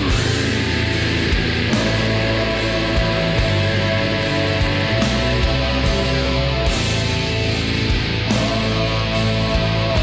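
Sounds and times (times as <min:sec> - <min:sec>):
distorted electric guitars: 0:00.0 - 0:10.0
drums: 0:00.0 - 0:10.0.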